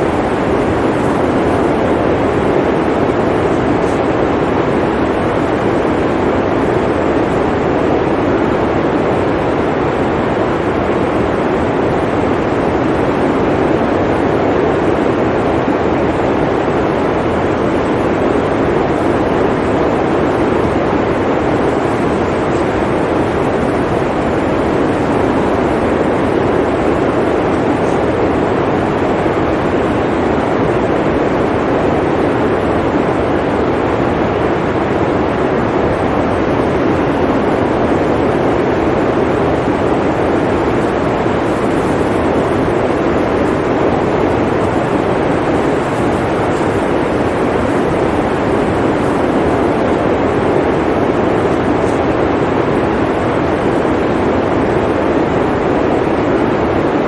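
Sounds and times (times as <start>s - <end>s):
blizzard wind rushing: 0.0s - 57.0s.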